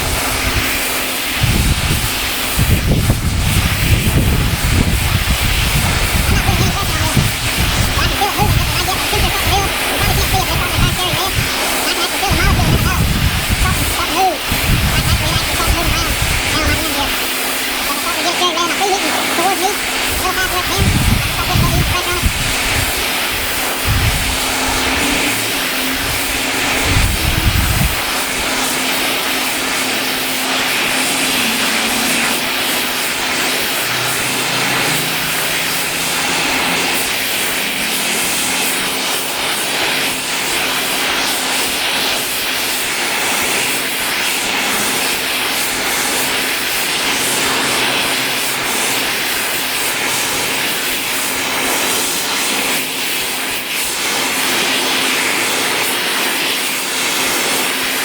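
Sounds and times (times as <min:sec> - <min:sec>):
gas burner roaring: 0:00.0 - 0:58.0.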